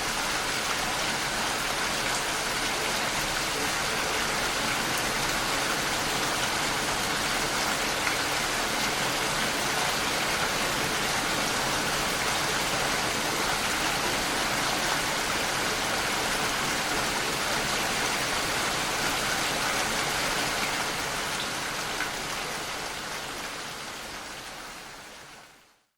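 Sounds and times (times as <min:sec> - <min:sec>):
steady rainfall: 0:00.0 - 0:25.9.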